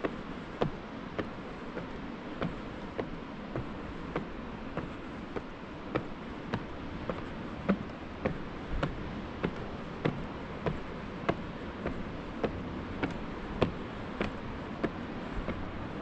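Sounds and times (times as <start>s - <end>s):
footsteps on wooden steps: 0.0s - 16.0s.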